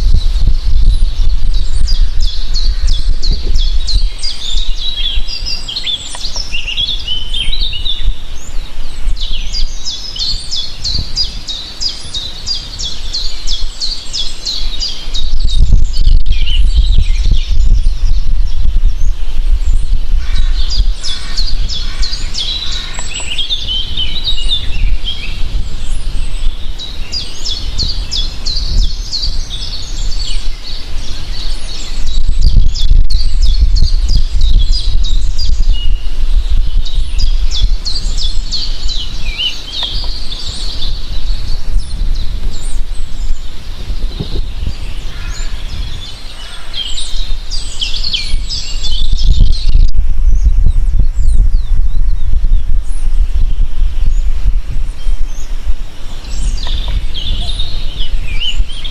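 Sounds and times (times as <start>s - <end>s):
birds chirping and singing: 0.0s - 58.9s
steady low rumble: 0.0s - 58.9s.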